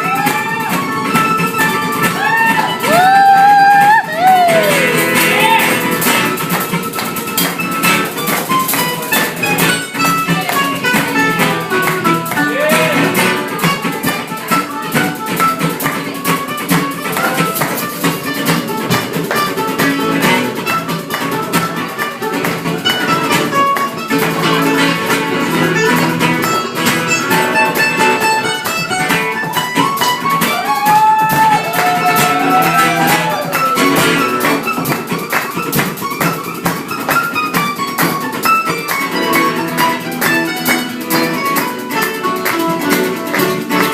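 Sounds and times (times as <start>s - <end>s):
plucked string instruments: 0.0s - 43.9s.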